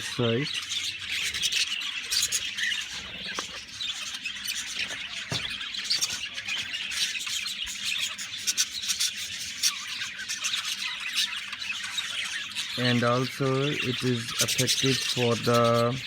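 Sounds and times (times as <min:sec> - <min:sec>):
cage birds squawking and chirping: 0:00.0 - 0:16.0.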